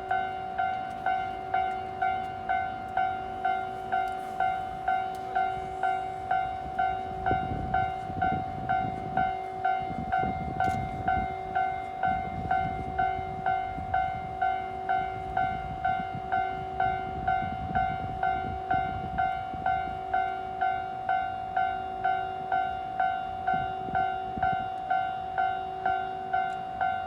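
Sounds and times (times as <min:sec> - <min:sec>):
level crossing alarm ringing: 0:00.0 - 0:27.0
train rumbling over crossing: 0:00.0 - 0:27.0.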